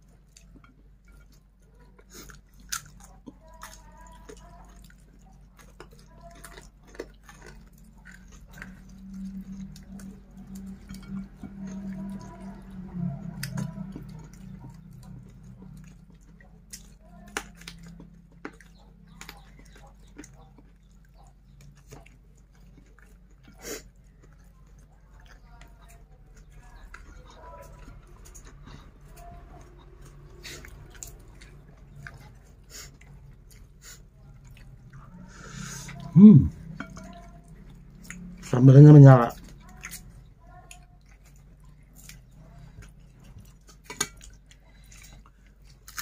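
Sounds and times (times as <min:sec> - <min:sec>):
faint low hum: 0:00.0 - 0:46.0
man chewing food: 0:00.0 - 0:46.0.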